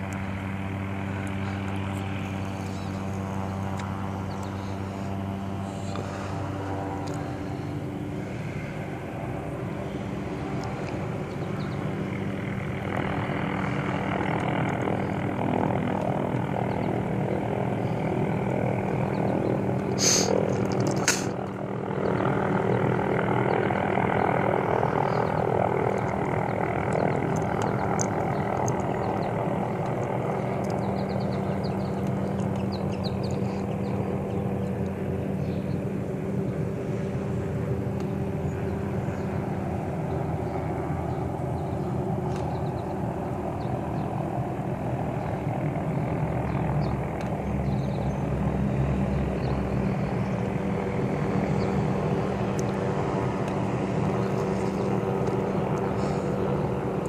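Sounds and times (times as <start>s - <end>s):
helicopter hovering drone: 0.0s - 57.0s
road vehicle passing: 0.0s - 57.0s.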